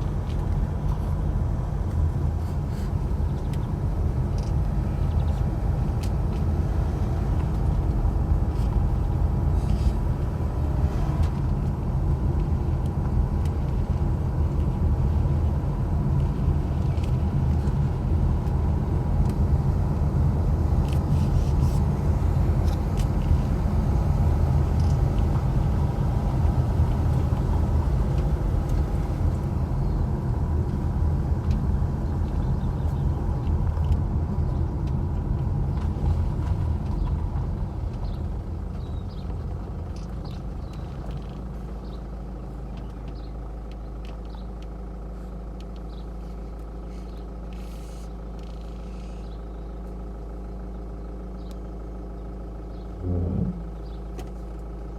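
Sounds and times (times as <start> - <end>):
engine rumble: 0.0 - 54.9.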